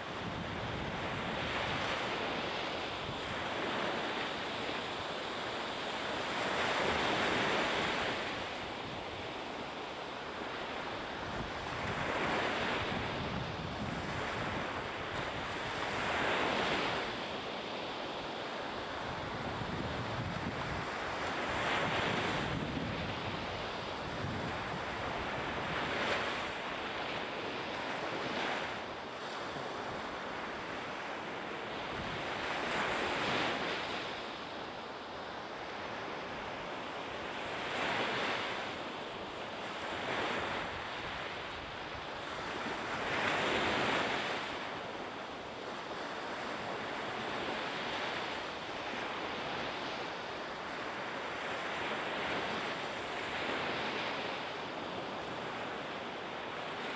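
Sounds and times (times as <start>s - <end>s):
wind blowing across microphone: 0.0s - 56.9s.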